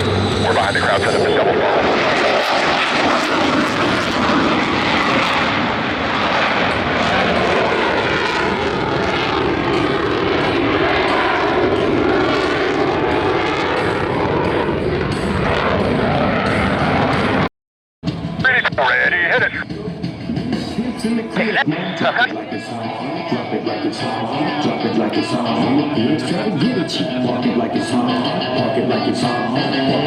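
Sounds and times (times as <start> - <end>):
jets flying past roaring: 0.0 - 17.5, 18.1 - 30.0.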